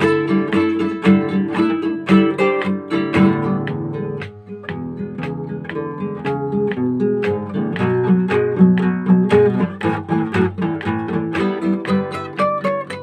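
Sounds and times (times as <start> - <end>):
solo guitar playing: 0.0 - 13.0.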